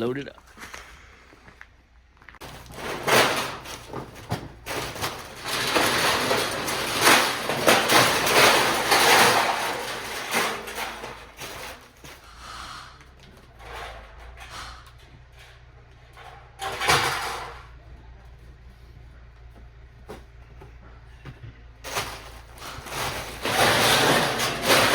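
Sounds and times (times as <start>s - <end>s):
scrap metal scraping and rattling: 2.4s - 18.0s, 20.0s - 24.9s.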